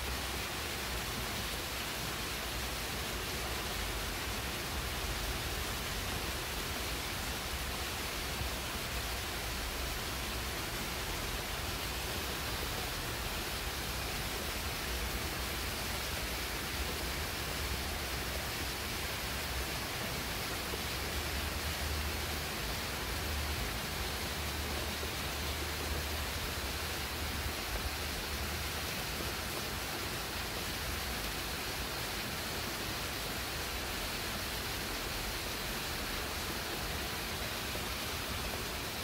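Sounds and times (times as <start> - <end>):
rain falling on leaves: 0.0 - 39.0.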